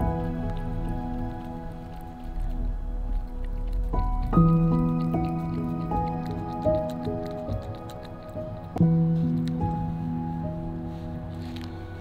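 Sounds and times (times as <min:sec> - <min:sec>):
soft sustained background music: 0:00.0 - 0:12.0.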